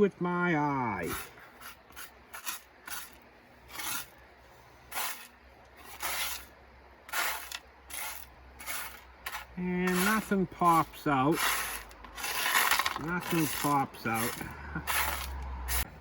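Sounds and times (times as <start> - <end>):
hand scraping gravel: 1.0 - 16.0.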